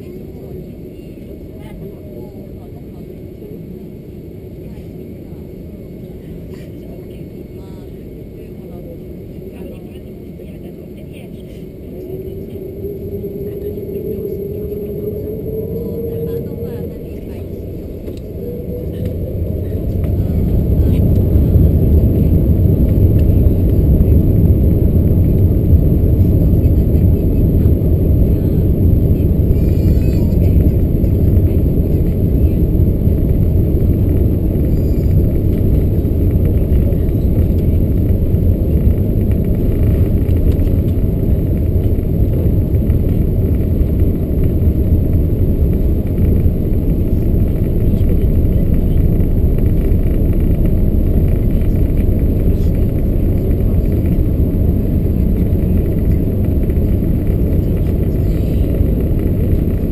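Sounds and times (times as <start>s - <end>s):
airplane cabin low rumble: 0.0s - 59.9s.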